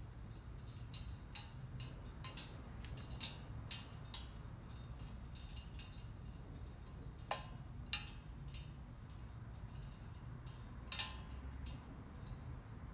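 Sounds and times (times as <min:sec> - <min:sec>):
heater ticking and clicking: 0:00.0 - 0:12.9
low steady rumble: 0:00.0 - 0:12.9.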